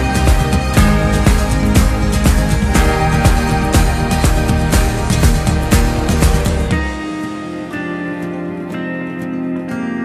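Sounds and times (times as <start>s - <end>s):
music with heavy bass beat: 0.0s - 8.6s.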